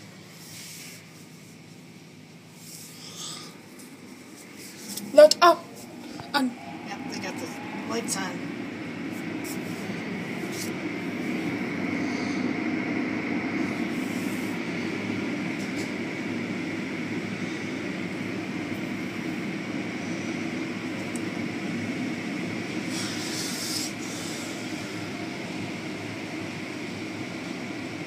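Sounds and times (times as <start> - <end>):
car wash machinery rumble: 0.0 - 28.0.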